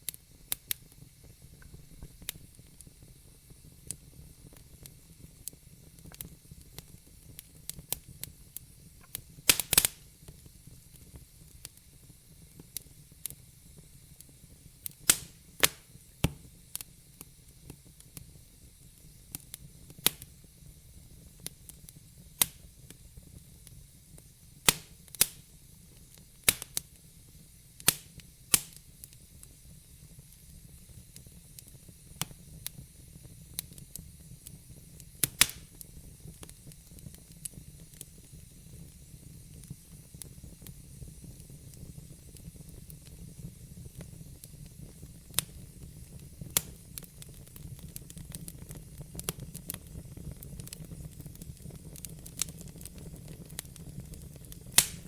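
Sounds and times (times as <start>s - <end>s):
fire low rumble: 0.0s - 55.0s
wood fire crackling and popping: 0.0s - 55.0s.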